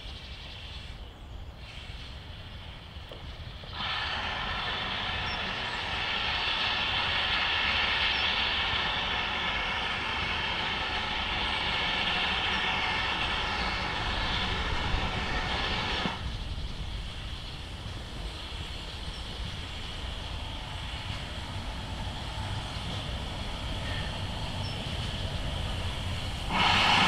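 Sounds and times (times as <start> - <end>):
steam locomotive roaring: 0.0 - 27.0.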